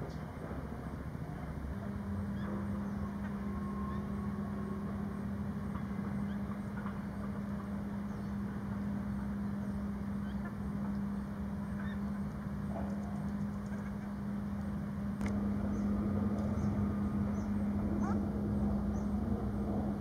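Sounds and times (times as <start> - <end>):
rumbling background noise: 0.0 - 20.0
steady low hum: 0.0 - 20.0.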